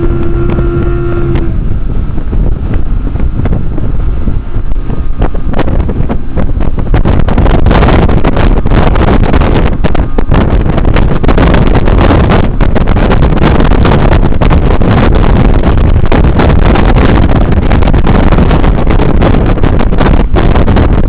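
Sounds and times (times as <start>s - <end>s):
outboard motor running: 0.0s - 21.0s
wind noise on microphone: 0.0s - 21.0s.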